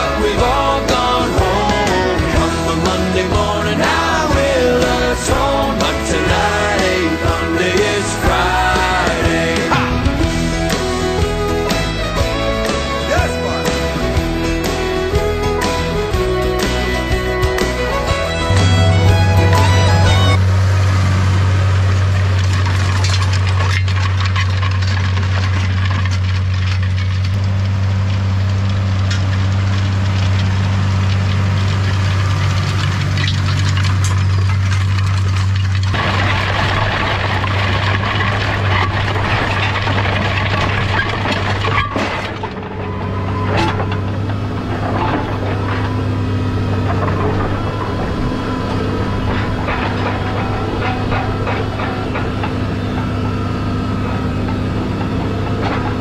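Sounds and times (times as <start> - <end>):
rattles and clicks: 0.0 - 20.4, 21.7 - 56.0
tractor engine running: 0.0 - 56.0.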